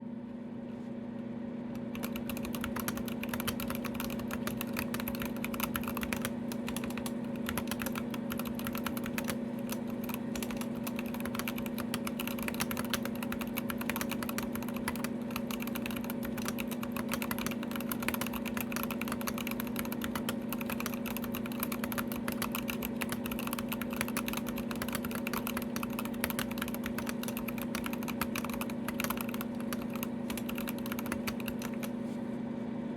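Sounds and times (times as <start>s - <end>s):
steady low hum: 0.0s - 32.9s
mechanical keyboard typing: 1.8s - 32.0s.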